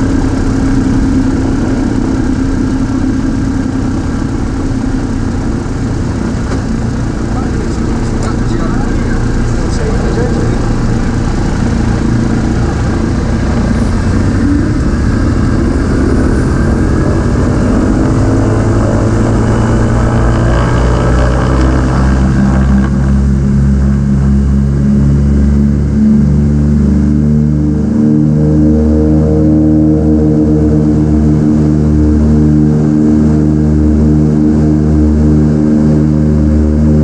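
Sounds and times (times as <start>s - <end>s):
propeller engines throttling up: 0.0s - 37.0s.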